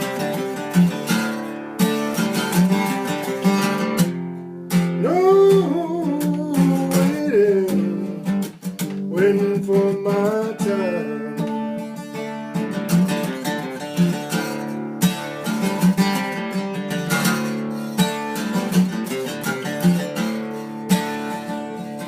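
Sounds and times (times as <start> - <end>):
acoustic guitar blues strumming: 0.0 - 22.0.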